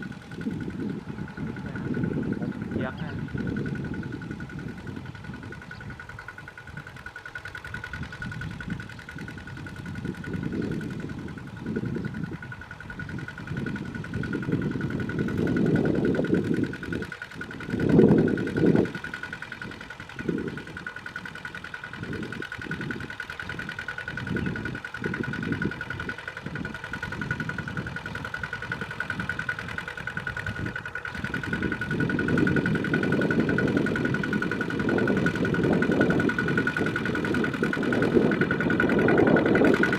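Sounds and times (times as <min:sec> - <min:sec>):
high-pitched whine: 0:00.0 - 0:39.9
tractor engine plowing: 0:00.0 - 0:39.9.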